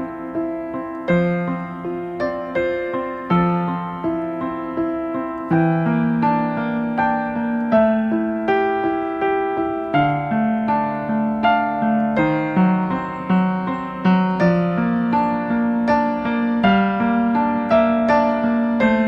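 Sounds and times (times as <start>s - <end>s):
slow piano notes: 0.0s - 19.0s.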